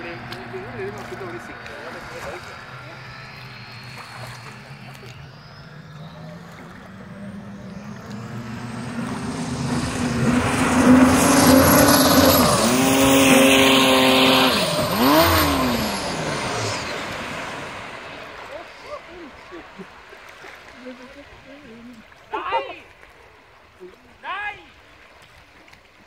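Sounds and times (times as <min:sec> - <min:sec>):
race boat engine running hard: 0:00.0 - 0:22.6.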